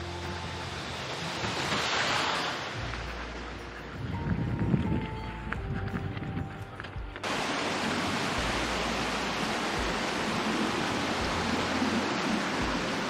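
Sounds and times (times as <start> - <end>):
running water rushing: 0.0 - 5.2, 7.2 - 13.0
faint music: 0.0 - 13.0.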